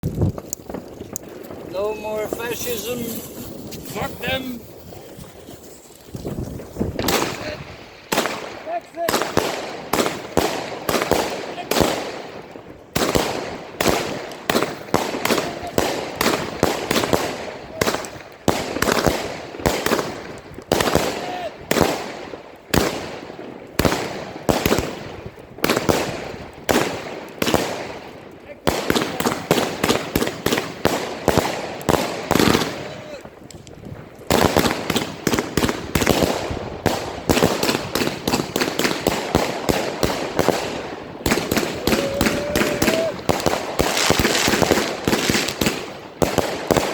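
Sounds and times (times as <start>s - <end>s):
firework cake bangs with crackle: 0.0s - 46.9s.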